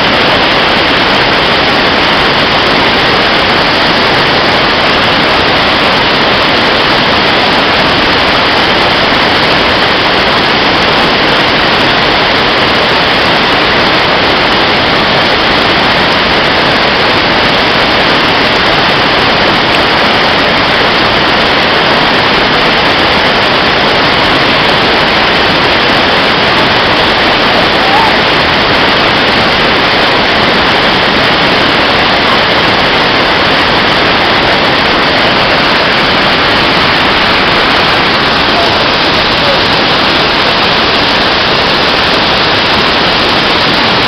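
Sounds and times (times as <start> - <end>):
rushing water: 0.0 - 44.0.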